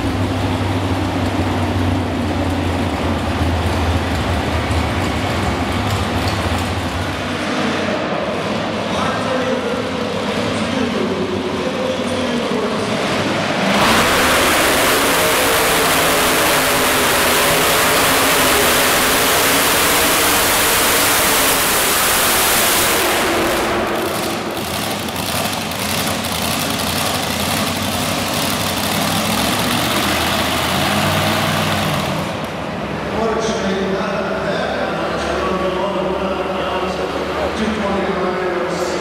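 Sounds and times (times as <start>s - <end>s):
engine crackles: 0.0s - 39.0s
tractor engine revving at full throttle: 0.0s - 39.0s.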